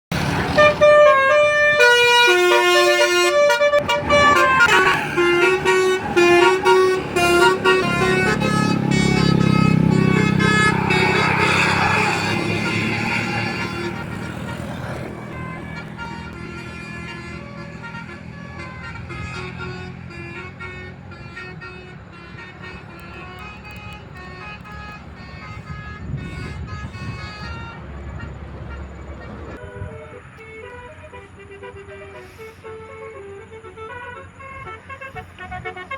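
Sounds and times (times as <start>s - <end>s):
musical bus air horns playing a tune: 0.1s - 35.9s.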